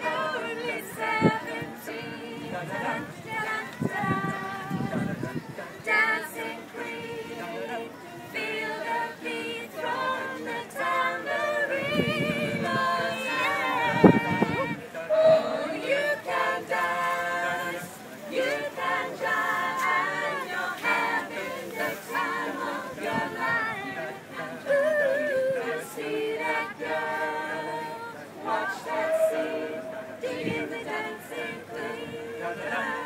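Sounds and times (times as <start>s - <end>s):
group singing a cappella: 0.0s - 33.0s.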